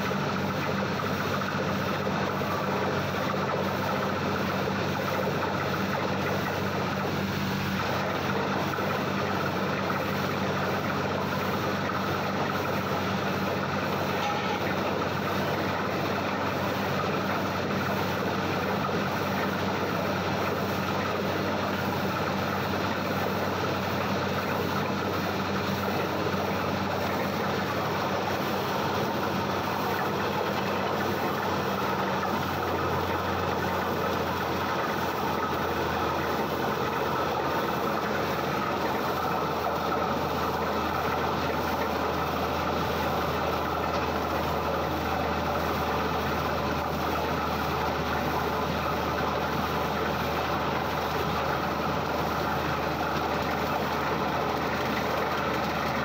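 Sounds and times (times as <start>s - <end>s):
drilling rig running: 0.0s - 56.0s.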